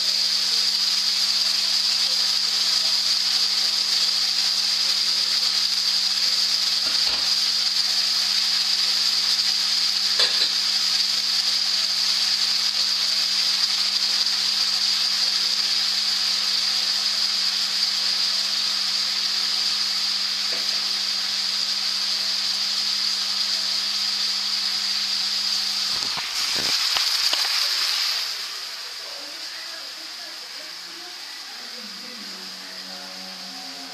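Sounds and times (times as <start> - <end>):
meat sizzling in frying pan: 0.0 - 33.9.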